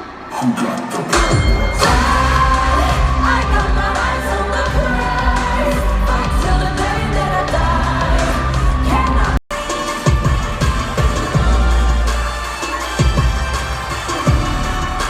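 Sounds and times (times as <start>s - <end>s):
pop song with vocals: 0.0s - 15.0s
heavy bass line: 1.2s - 15.0s.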